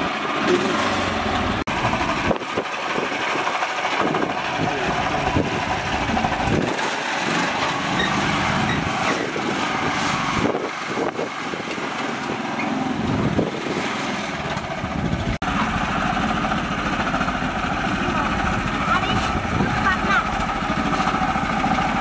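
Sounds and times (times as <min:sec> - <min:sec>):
small tractor engine running: 0:00.0 - 0:22.0.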